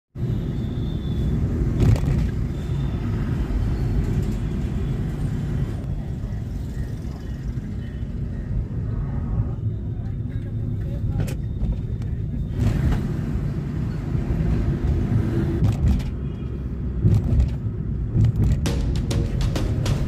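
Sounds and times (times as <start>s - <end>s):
car road and engine rumble: 0.2s - 20.0s.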